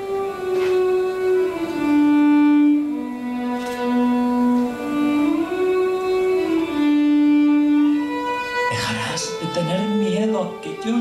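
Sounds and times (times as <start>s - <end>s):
solo violin slow melody: 0.0s - 11.0s.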